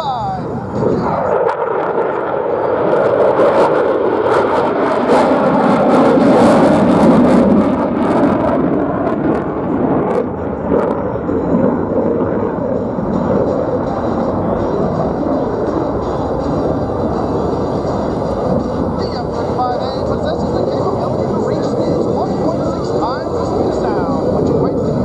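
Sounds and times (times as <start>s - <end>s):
jet engine roaring: 0.0s - 25.0s.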